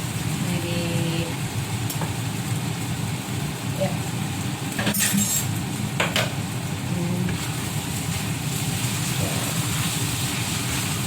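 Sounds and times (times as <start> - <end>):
filling sizzling in a pan: 0.0 - 11.0.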